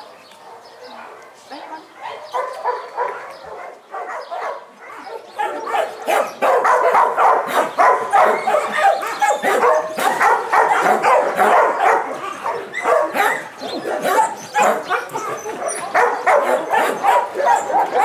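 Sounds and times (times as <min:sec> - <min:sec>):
dogs barking: 0:00.0 - 0:18.0.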